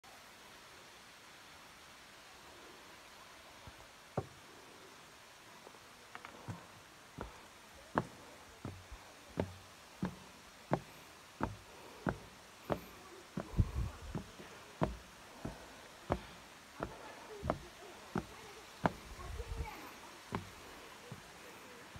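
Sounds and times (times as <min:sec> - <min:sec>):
footsteps on outdoor stairs: 0:03.6 - 0:21.9.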